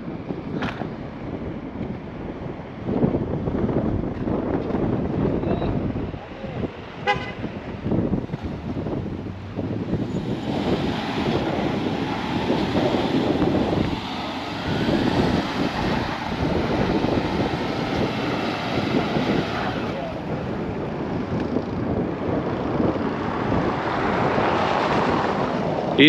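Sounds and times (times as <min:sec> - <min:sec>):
vehicle engines running hard: 0:00.0 - 0:26.0
wind buffeting microphone: 0:00.0 - 0:26.0.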